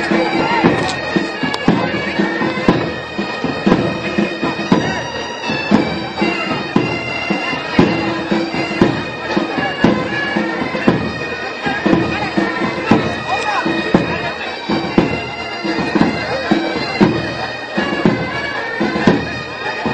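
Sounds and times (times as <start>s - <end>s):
bagpipes with drone: 0.0s - 19.9s
drum beat: 0.0s - 19.9s.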